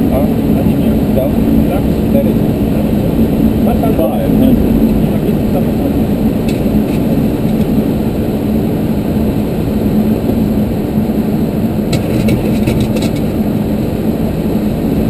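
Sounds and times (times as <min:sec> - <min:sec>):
airflow and engine drone: 0:00.0 - 0:15.0
constant low hum: 0:00.0 - 0:15.0.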